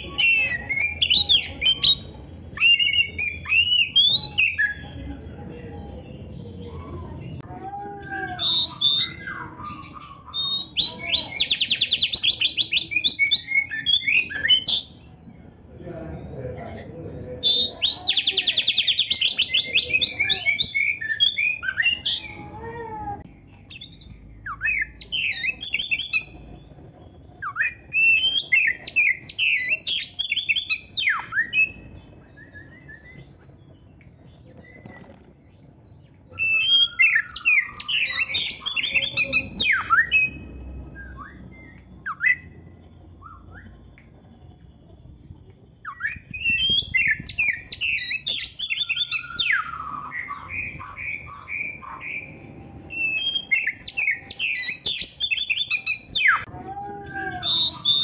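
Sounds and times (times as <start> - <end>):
bird singing varied song: 0.0 - 58.0.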